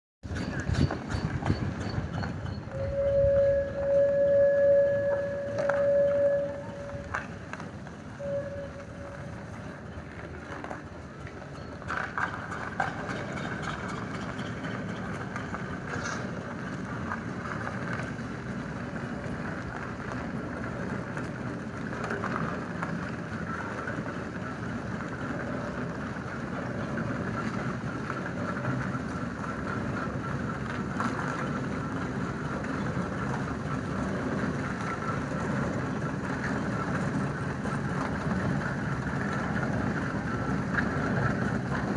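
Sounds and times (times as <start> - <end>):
steam roller mechanical rumble: 0.2 - 41.9.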